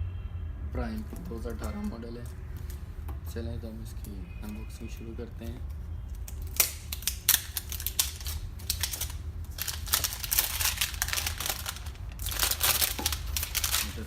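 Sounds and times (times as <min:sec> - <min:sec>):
packaging crackling and crinkling: 0:00.9 - 0:02.9, 0:03.8 - 0:14.0.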